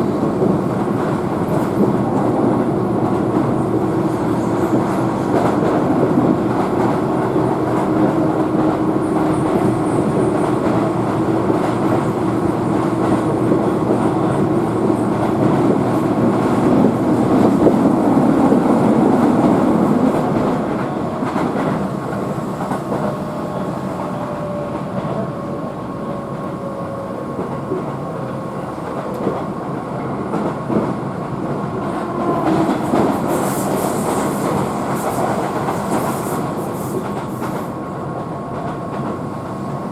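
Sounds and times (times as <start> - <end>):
train hum: 0.0 - 39.9
train wheels rumbling on rail: 0.0 - 39.9.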